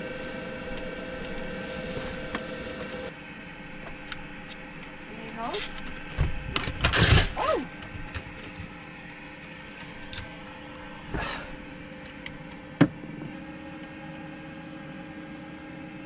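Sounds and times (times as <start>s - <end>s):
heater humming: 0.0s - 16.0s.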